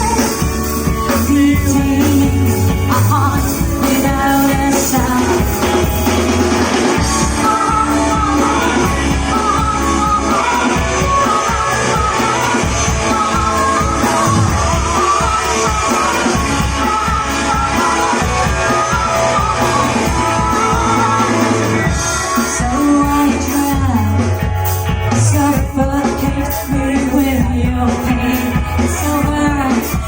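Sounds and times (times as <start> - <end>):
person singing: 0.0 - 30.0
rock band playing live: 0.0 - 30.0.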